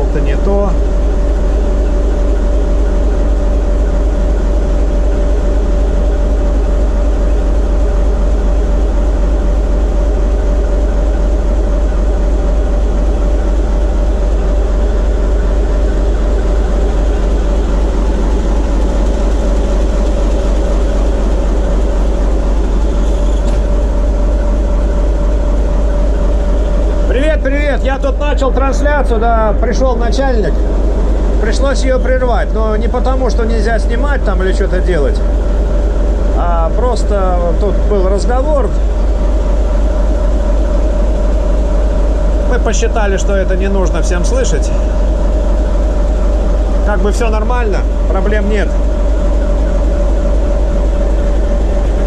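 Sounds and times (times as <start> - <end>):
diesel engine drone: 0.0 - 52.0
steady whine: 0.0 - 52.0.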